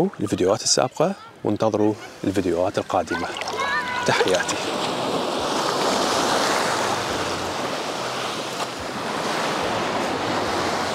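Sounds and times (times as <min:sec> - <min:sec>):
sea waves washing in: 0:01.9 - 0:10.9.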